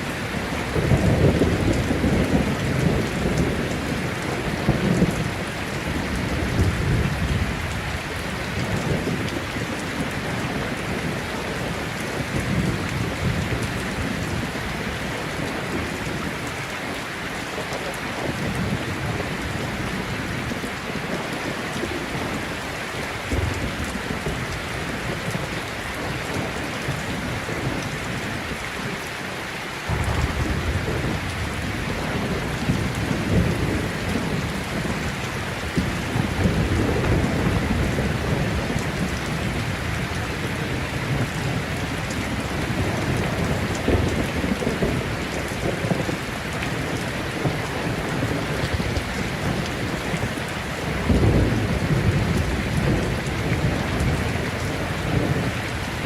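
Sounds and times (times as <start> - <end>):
heavy rain falling: 0.0 - 56.0
low thunder rumbling: 0.1 - 17.0, 18.2 - 29.0, 29.9 - 56.0.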